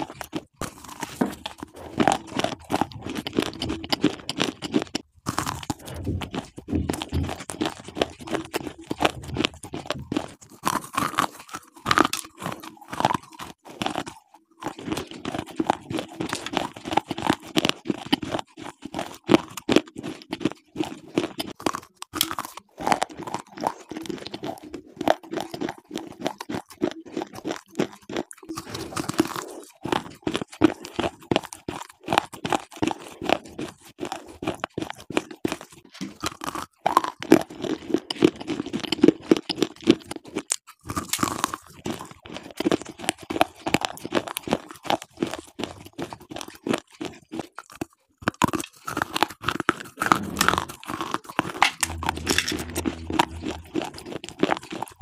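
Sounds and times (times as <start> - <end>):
crisp chewing crunches: 0.0 - 55.0.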